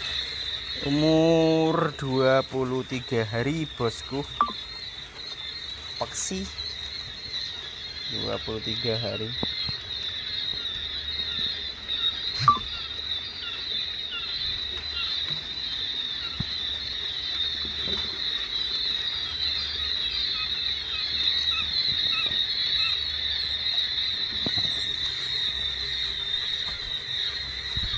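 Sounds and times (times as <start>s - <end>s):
quail chicks peeping: 0.0s - 27.9s.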